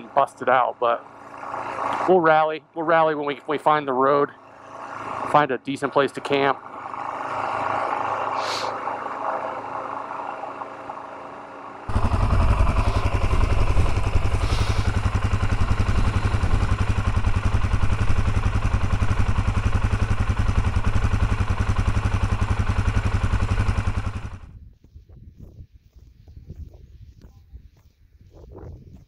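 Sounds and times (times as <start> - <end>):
motorcycle engine idling: 0.0 - 2.4, 3.0 - 24.6
motorcycle riding on cinder road: 0.0 - 27.2.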